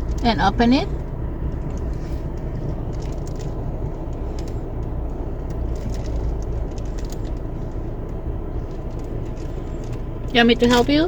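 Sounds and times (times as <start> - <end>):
car interior rumble: 0.0 - 11.0
plastic wrapper crinkling: 1.4 - 11.0.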